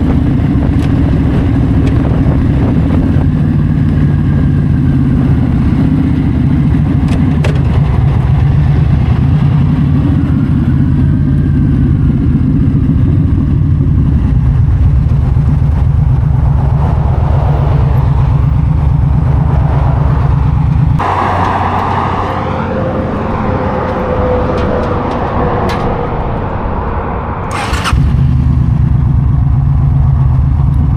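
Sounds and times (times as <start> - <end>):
motorcycle engine cruising: 0.0 - 26.6, 27.5 - 30.9
road noise: 0.0 - 30.9
wind noise: 0.0 - 30.9.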